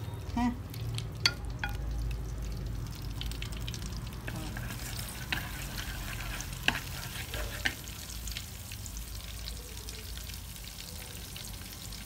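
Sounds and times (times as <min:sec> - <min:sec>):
butter sizzling in a wok: 0:00.0 - 0:12.0.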